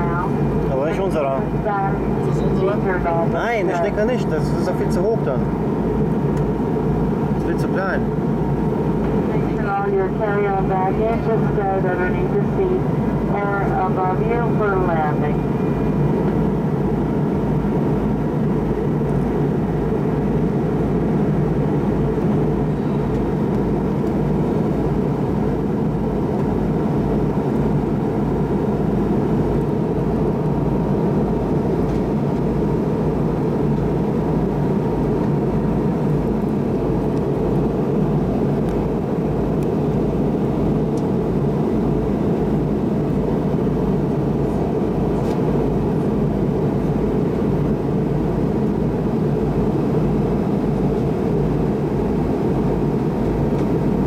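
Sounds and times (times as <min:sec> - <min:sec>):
airliner cabin engine rush: 0:00.0 - 0:54.0.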